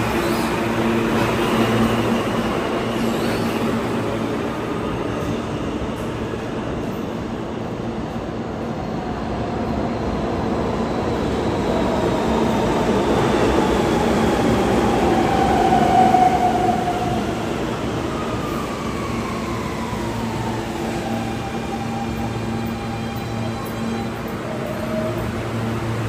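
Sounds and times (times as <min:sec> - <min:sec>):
subway train rumbling on rails: 0:00.0 - 0:26.0.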